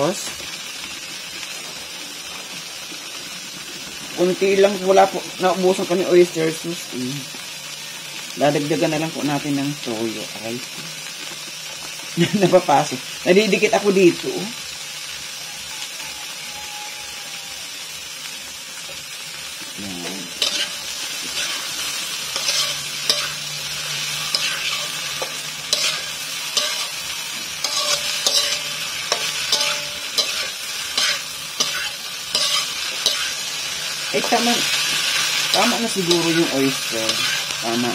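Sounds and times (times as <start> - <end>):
food sizzling in a pan: 0.0 - 37.9.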